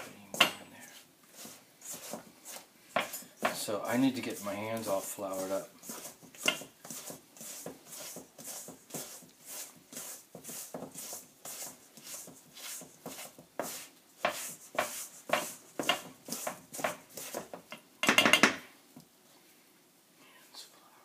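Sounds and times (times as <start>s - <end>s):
hands tapping and rubbing objects: 0.0s - 19.2s.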